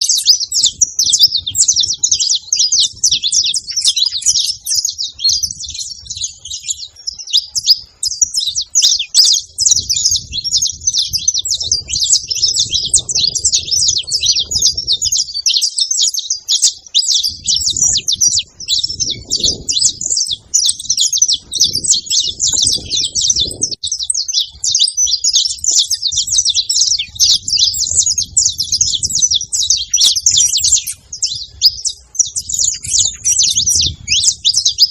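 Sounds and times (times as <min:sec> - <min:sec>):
finches chirping and singing: 0:00.0 - 0:34.9.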